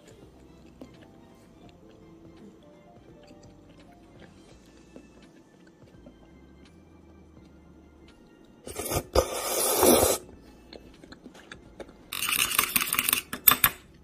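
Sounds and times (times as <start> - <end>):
crunching and scraping eating sounds: 0.0 - 6.8, 8.1 - 14.0.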